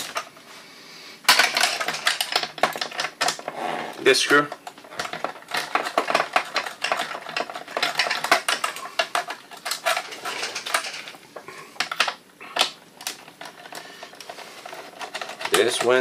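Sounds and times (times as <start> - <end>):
small metallic clicks and rattles: 1.3 - 3.5, 4.2 - 16.0.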